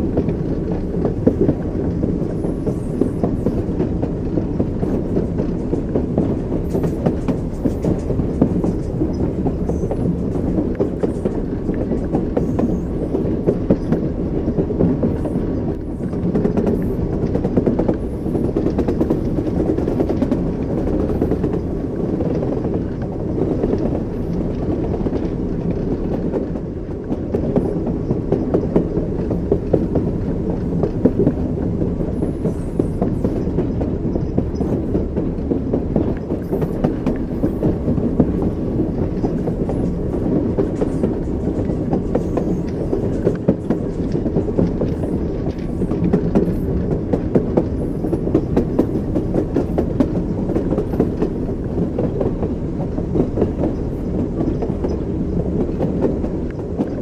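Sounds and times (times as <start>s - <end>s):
low rumble of moving train: 0.0s - 57.0s
train wheels clattering on rails: 0.0s - 57.0s.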